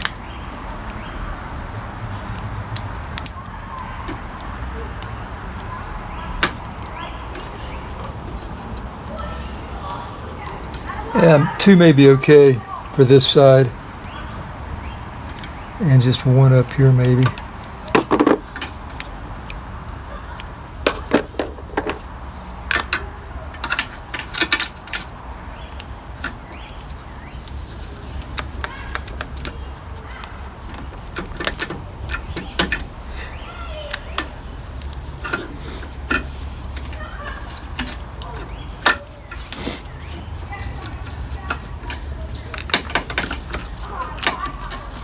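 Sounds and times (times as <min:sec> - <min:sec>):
hands handling tape: 0:00.0 - 0:01.1, 0:02.1 - 0:12.2, 0:12.8 - 0:45.0.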